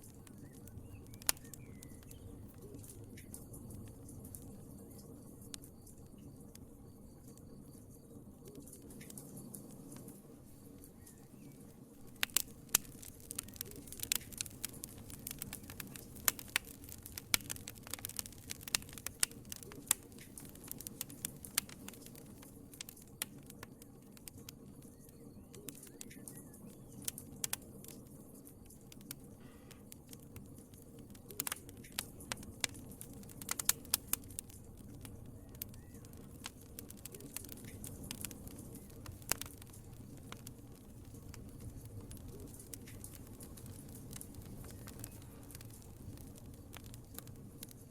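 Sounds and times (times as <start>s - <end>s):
sharp pops and snaps: 0.0s - 7.8s, 8.4s - 47.9s
low rush of flames: 0.0s - 47.9s
wood fire crackling: 0.0s - 47.9s.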